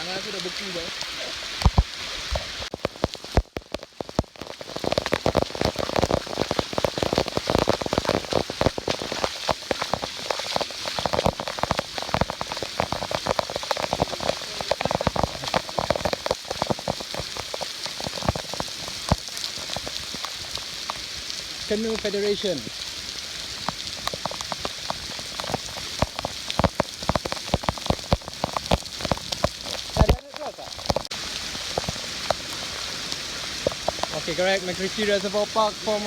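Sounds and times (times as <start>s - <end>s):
rain drops pattering: 0.0s - 36.0s.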